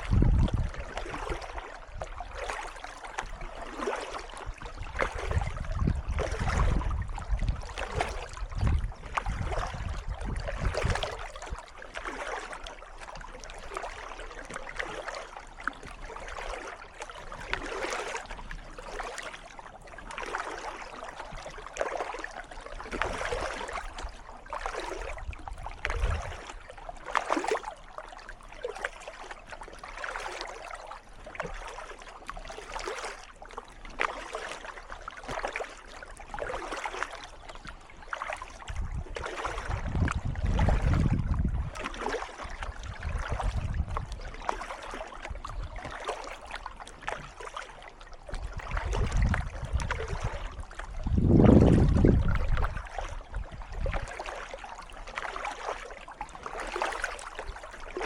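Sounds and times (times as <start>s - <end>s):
paddle splashing into water: 0.0s - 58.0s
water trickling off paddle: 0.0s - 58.0s.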